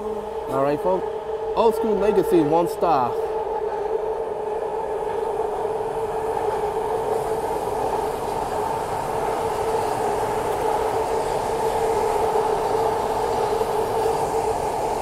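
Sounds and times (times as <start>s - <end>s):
train whine: 0.0s - 15.0s.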